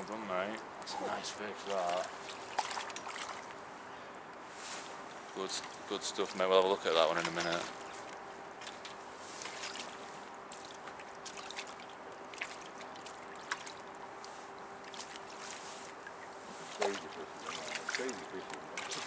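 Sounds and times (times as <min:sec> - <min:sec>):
river water lapping at bank: 0:00.6 - 0:03.9, 0:04.9 - 0:19.0.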